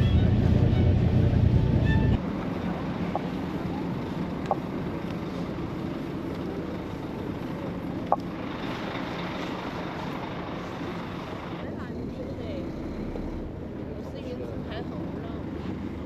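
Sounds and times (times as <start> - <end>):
vehicle road noise: 0.0 - 16.0.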